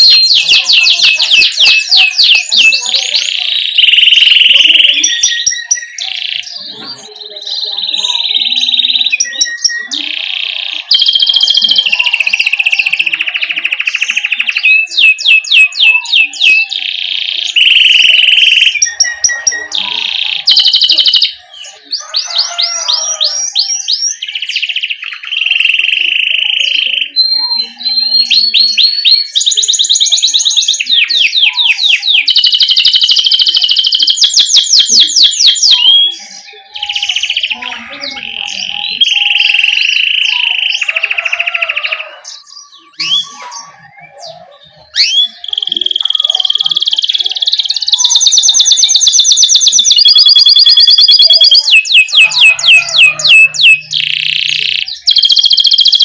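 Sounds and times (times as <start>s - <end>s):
canary singing with trills: 0.0s - 56.0s.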